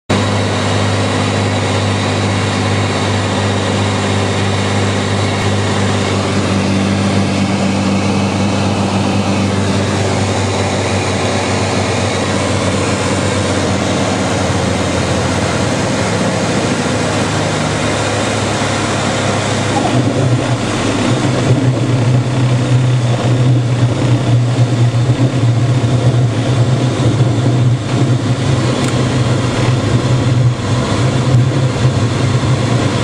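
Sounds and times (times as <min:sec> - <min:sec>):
aircraft engine and propeller droning: 0:00.1 - 0:33.0.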